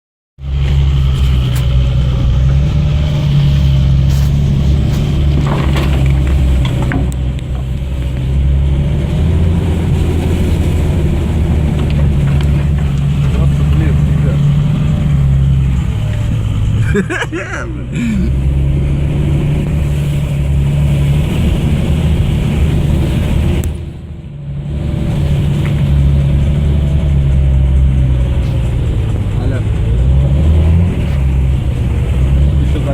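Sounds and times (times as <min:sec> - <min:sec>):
vehicle engine droning: 0:00.4 - 0:32.9.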